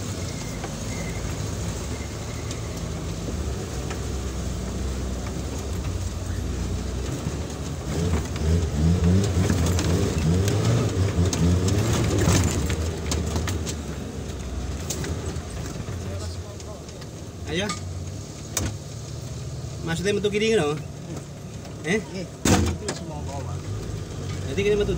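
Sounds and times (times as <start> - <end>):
off-road vehicle engine revving: 0.0 - 24.9.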